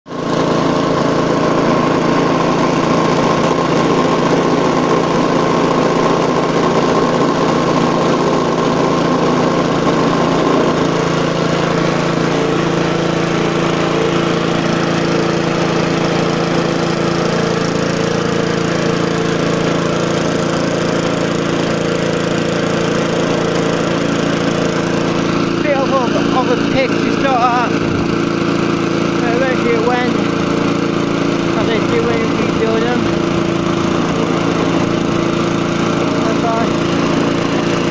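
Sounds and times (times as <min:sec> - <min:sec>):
lawnmower engine running: 0:00.1 - 0:37.9.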